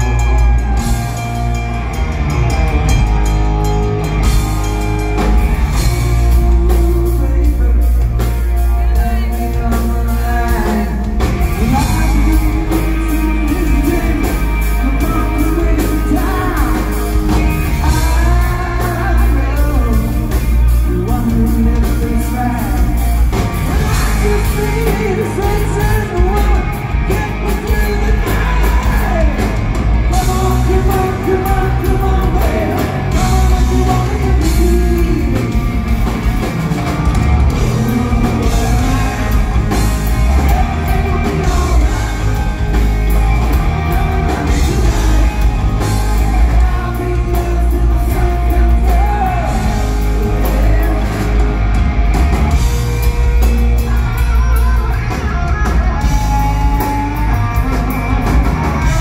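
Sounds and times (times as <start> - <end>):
live hard rock band: 0.0 - 59.0
person singing: 2.9 - 59.0.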